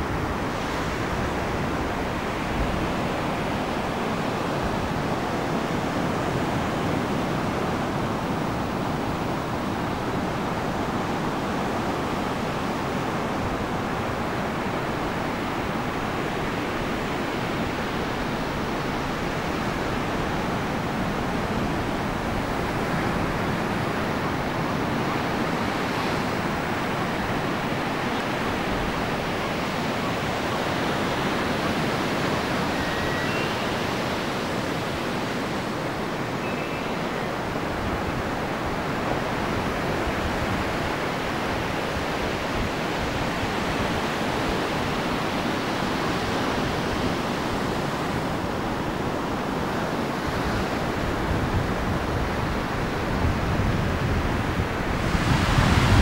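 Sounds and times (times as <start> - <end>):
ocean surf: 0.0 - 56.0.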